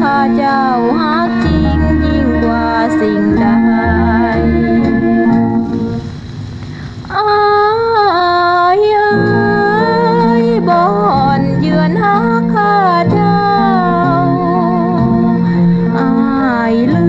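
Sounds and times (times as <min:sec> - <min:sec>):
bass line: 0:00.0 - 0:06.6, 0:09.1 - 0:17.0
electronic organ music: 0:00.0 - 0:06.6, 0:09.0 - 0:17.0.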